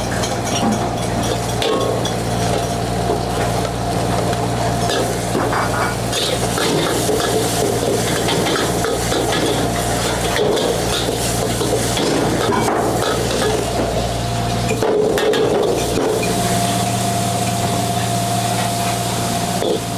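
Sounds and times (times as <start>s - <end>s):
food sizzling in a wok: 0.4s - 19.9s.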